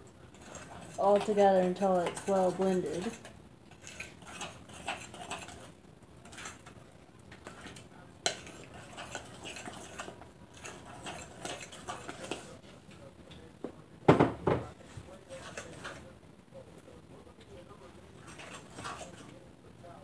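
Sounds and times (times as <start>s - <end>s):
spoon stirring batter in bowl: 0.0s - 13.5s, 14.6s - 16.2s, 17.4s - 19.5s.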